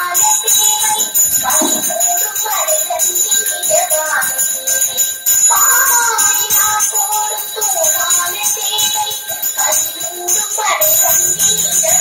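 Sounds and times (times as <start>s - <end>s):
handbell ringing: 0.0s - 12.0s
person singing: 0.0s - 12.0s.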